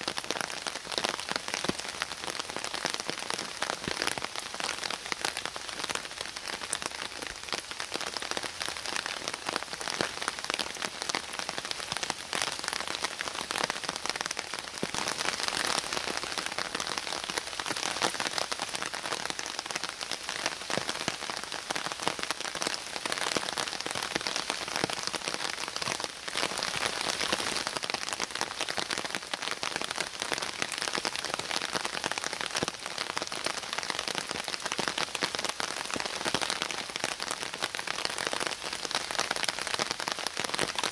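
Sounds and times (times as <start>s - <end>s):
rain drops on leaves: 0.0s - 40.9s.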